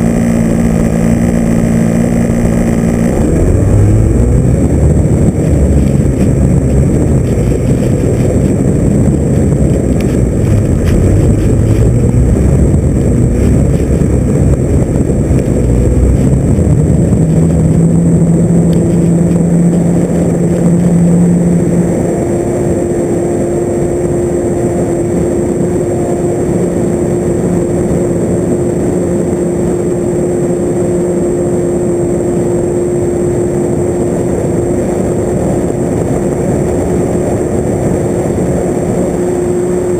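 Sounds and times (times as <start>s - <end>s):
aircraft motor and propeller: 0.0s - 39.9s
wind rushing over camera: 0.0s - 39.9s.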